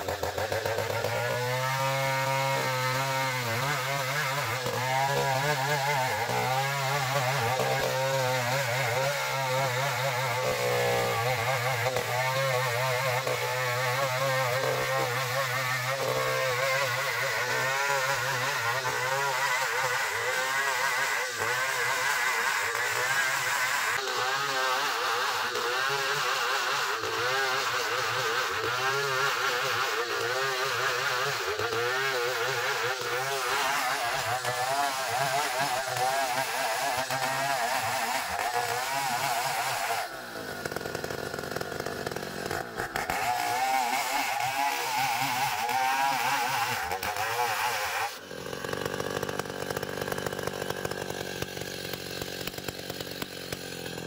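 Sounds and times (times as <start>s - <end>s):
engine-driven band saw sawing timber: 0.0s - 54.0s.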